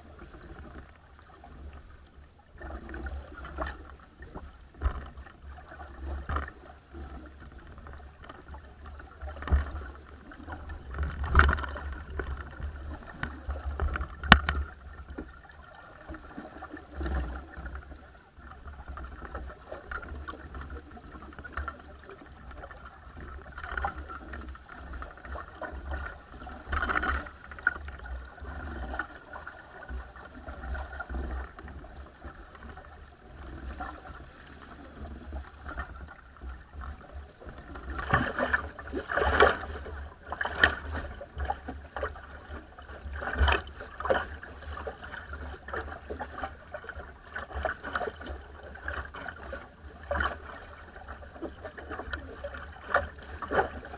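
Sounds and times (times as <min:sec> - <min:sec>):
water splashing along a boat hull: 0:00.0 - 0:53.9.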